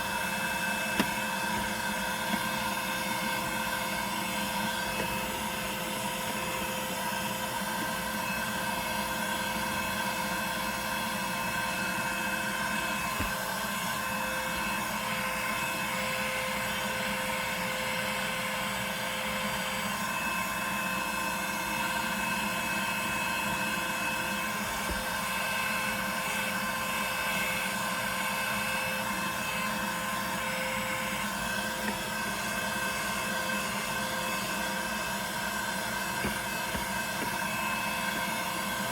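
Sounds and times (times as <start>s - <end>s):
small motor whining: 0.0s - 38.9s.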